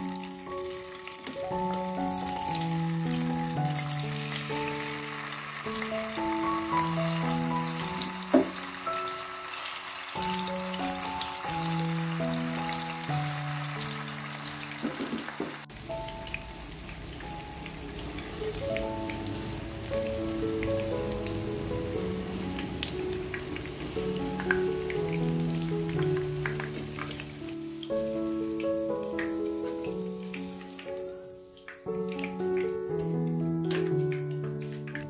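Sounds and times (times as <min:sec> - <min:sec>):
tofu sizzling in hot oil: 0:00.0 - 0:33.9
melodic background music: 0:00.0 - 0:35.0.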